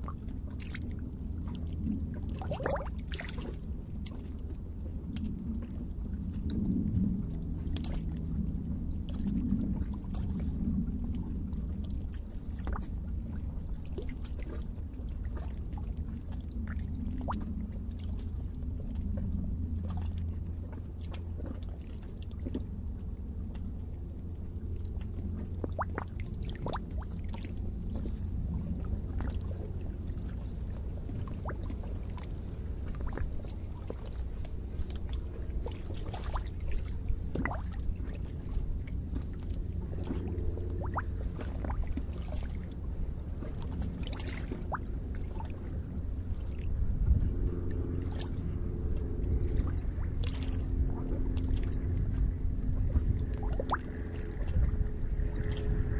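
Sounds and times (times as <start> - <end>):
low steady rumble: 0.0 - 55.9
water bubbling and gurgling: 0.0 - 55.9.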